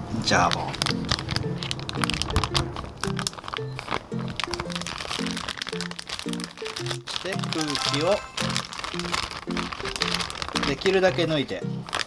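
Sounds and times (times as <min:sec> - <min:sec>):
background music melody: 0:00.0 - 0:12.0
plastic bag crinkling: 0:00.2 - 0:12.0.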